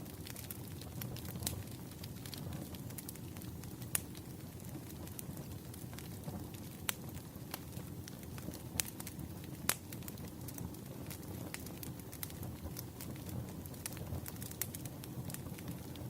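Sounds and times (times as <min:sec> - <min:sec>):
fire flames rushing: 0:00.0 - 0:16.0
wood crackling and popping: 0:00.0 - 0:16.0.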